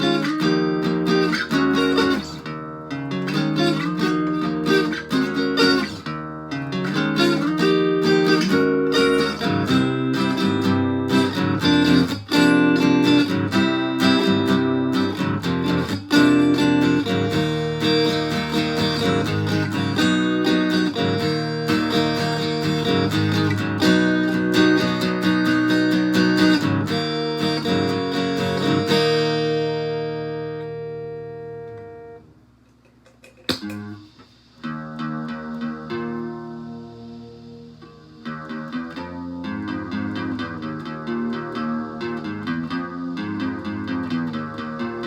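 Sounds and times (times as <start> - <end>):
distorted acoustic guitar strumming: 0.0 - 45.0.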